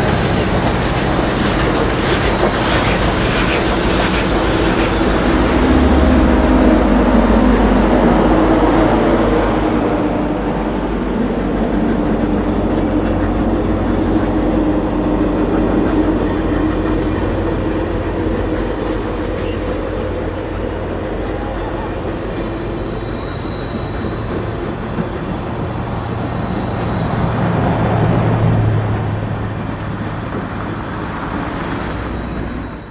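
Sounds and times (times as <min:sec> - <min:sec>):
steam train rumbling past: 0:00.0 - 0:32.9.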